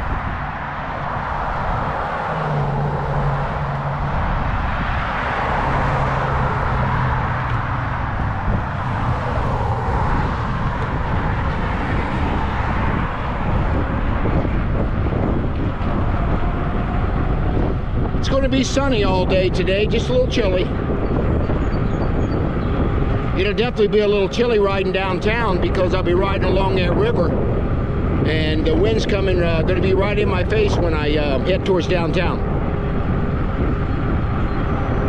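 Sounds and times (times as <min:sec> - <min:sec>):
passing road traffic: 0:00.0 - 0:35.0
wind rushing over microphone: 0:00.0 - 0:35.0.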